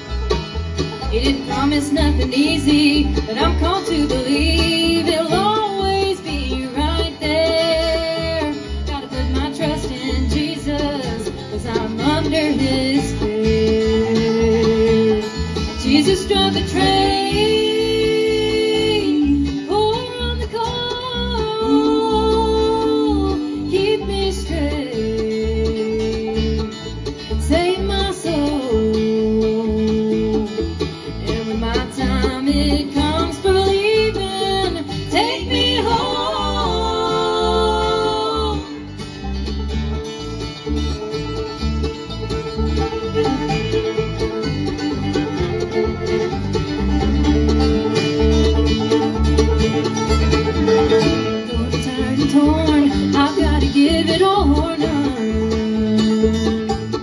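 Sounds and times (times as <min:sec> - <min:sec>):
acoustic guitar strumming: 0:00.0 - 0:57.0
banjo rolls: 0:00.0 - 0:57.0
bass: 0:00.0 - 0:57.0
fiddle lead with sliding notes: 0:00.0 - 0:57.0.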